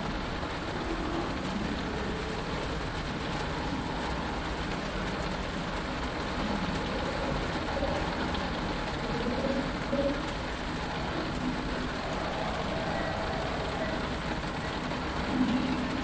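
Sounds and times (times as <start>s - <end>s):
faint wavering tones: 0.0s - 16.0s
low continuous rumble: 0.0s - 16.0s
rain on a cockpit canopy: 0.0s - 16.0s.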